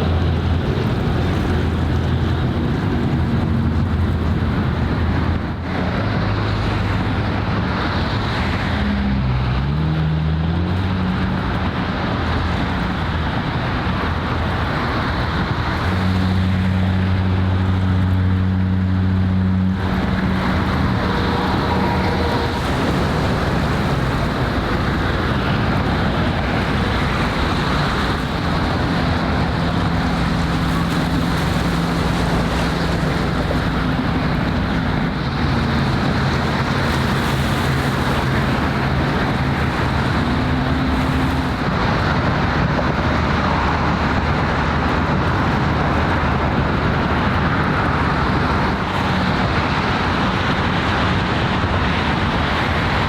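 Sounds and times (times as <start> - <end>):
boat engine drone: 0.0 - 53.0
strong steady drone: 0.0 - 53.0
waves washing: 0.0 - 53.0
wind noise on microphone: 0.0 - 53.0.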